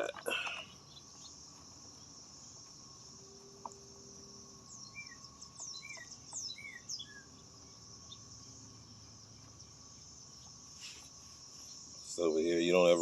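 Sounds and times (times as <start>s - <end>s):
bird chirping: 0.0s - 13.0s
crickets trilling: 0.0s - 13.0s.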